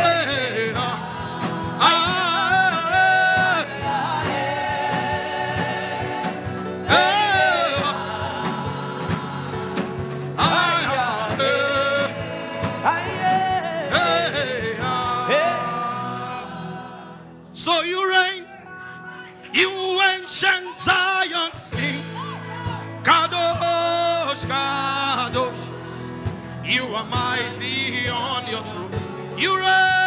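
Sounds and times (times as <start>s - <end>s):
person singing gospel chant: 0.0s - 30.0s
steady held accompaniment: 0.0s - 30.0s.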